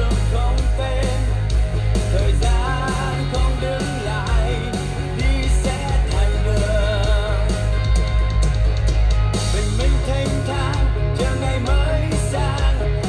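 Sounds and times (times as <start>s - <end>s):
pop song over a speaker: 0.0s - 8.5s, 9.4s - 13.0s.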